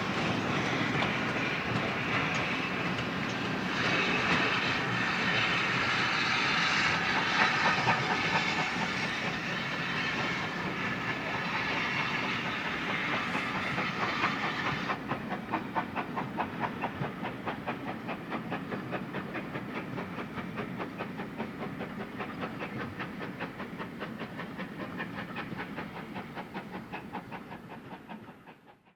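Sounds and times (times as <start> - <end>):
steam locomotive hissing: 0.0 - 28.9
train wheels clickety-clack: 0.0 - 28.9.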